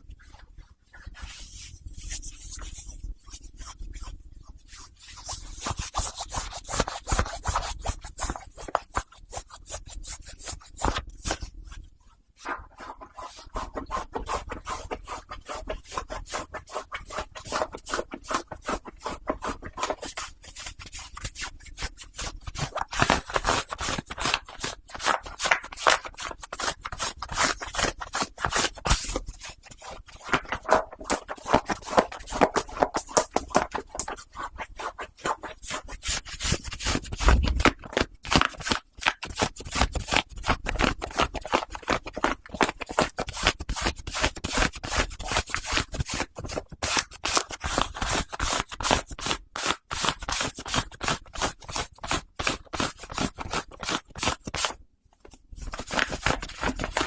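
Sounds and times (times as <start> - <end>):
socks rubbed and scratched: 0.0 - 54.8.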